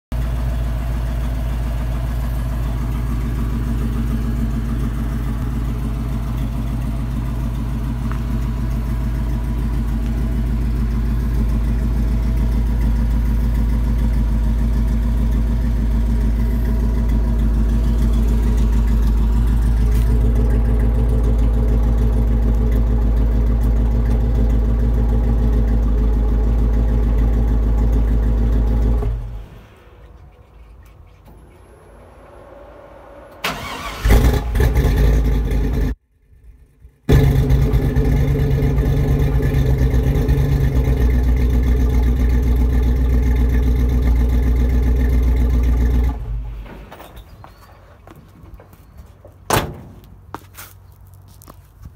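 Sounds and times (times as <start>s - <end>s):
engine idling exhaust note: 0.1s - 51.6s.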